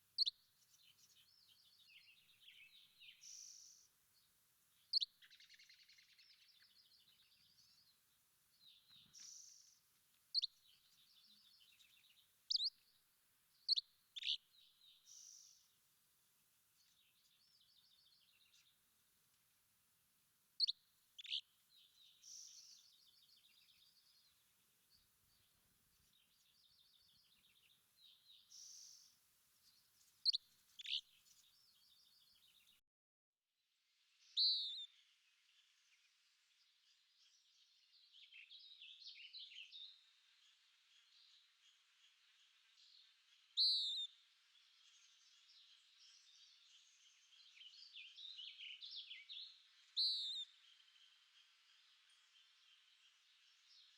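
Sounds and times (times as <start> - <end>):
songbirds chirping and trilling: 0.0 - 32.8, 34.0 - 53.9.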